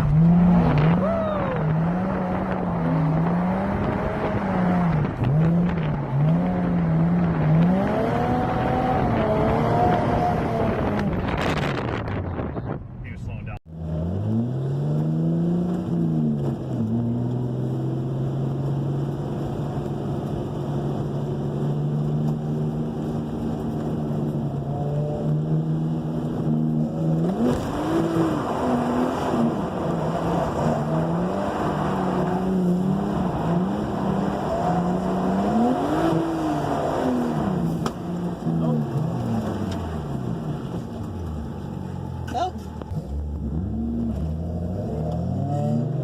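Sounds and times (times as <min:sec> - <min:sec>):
car engine revving: 0:00.0 - 0:12.7, 0:13.7 - 0:46.0.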